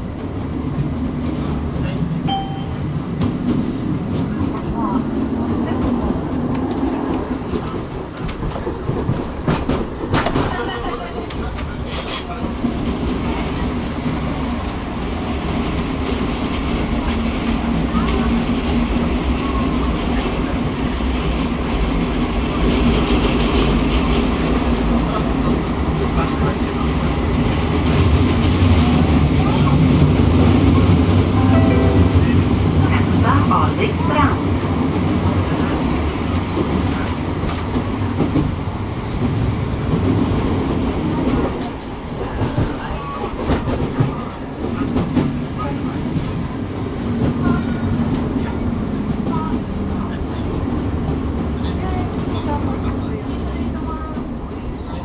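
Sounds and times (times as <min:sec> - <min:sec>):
tram wheels rumbling on track: 0:00.0 - 0:55.0.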